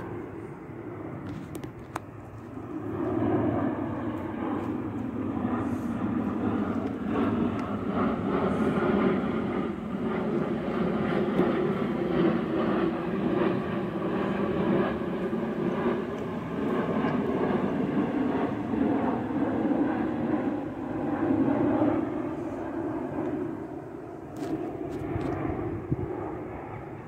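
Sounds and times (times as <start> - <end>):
jet airliner rumbling overhead: 0.0 - 27.0.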